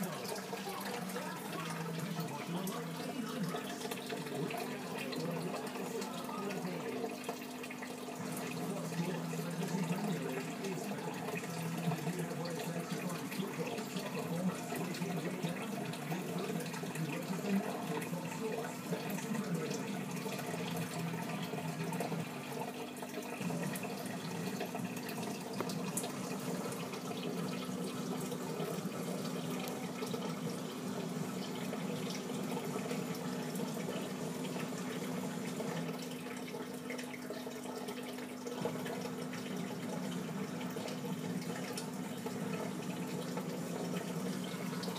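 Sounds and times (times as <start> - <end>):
water trickling and bubbling: 0.0 - 44.9.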